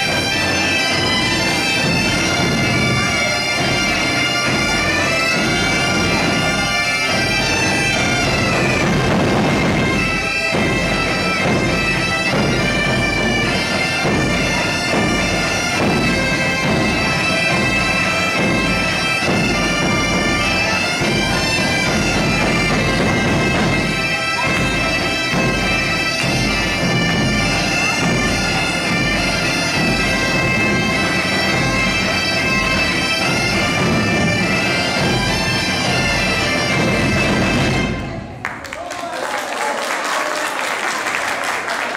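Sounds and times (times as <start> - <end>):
bagpipes playing folk tune: 0.0 - 38.3.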